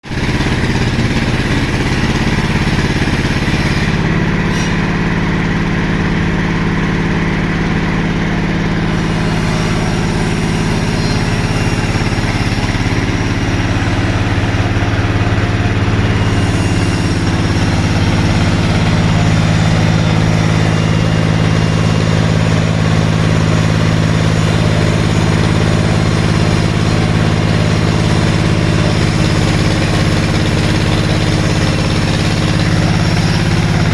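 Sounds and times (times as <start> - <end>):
sawmill machinery humming: 0.0 - 33.9.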